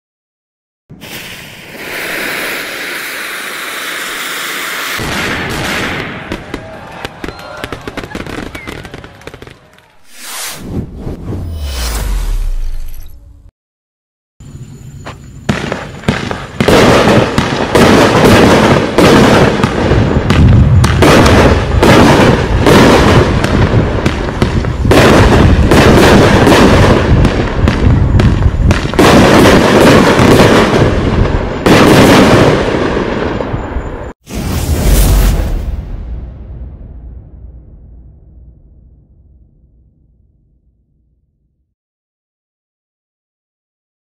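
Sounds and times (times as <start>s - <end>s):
fireworks launch bangs and bursts: 0.9s - 13.5s, 15.4s - 39.6s.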